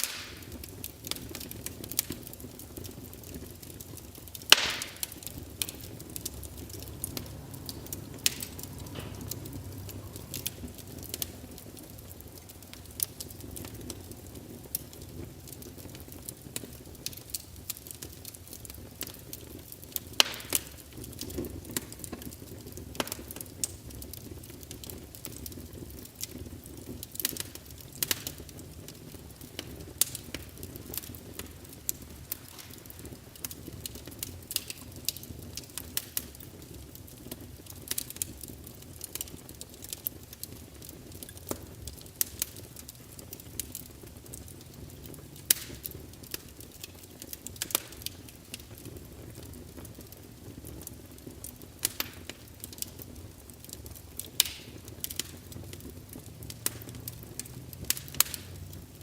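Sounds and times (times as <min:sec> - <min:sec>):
logs crackling and popping: 0:00.0 - 0:59.0
low roar of flame: 0:00.0 - 0:59.0.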